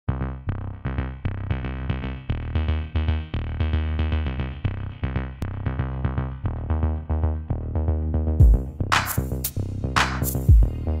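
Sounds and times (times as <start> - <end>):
music with bass beat: 0.1 - 11.0.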